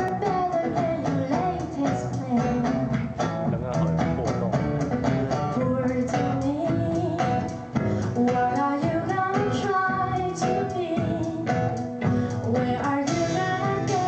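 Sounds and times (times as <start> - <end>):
woman singing pop song: 0.0 - 3.3, 5.4 - 14.0
band playing with regular beat: 0.0 - 14.0.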